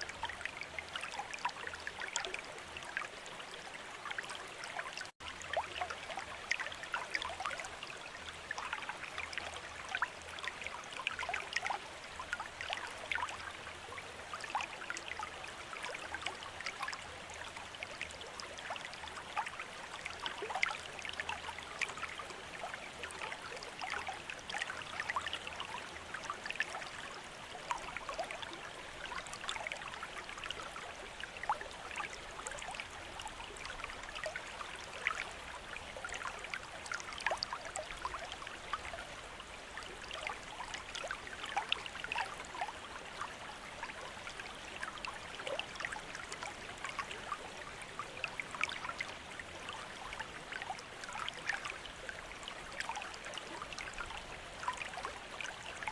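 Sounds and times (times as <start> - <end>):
fountain water trickling into basin: 0.0 - 55.9.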